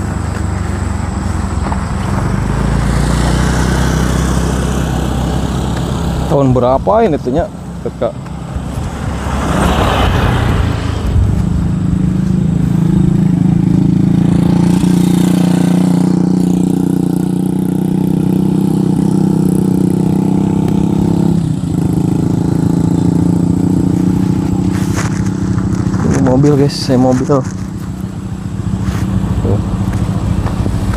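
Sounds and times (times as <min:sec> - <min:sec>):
engine running: 0:00.0 - 0:30.9.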